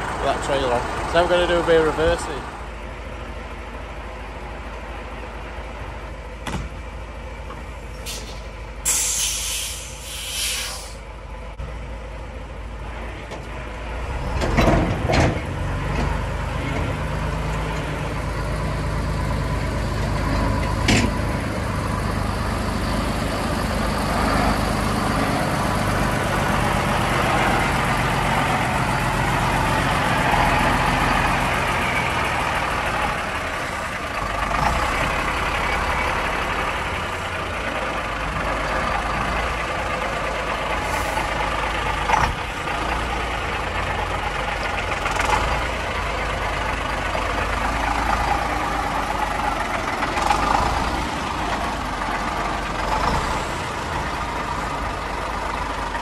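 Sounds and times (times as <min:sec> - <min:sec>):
diesel lorry engine at low revs: 0:00.0 - 0:56.0.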